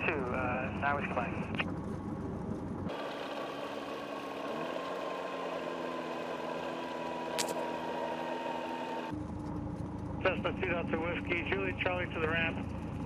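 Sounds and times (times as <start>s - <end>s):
aircraft engine idling: 0.0s - 7.8s, 8.7s - 13.0s.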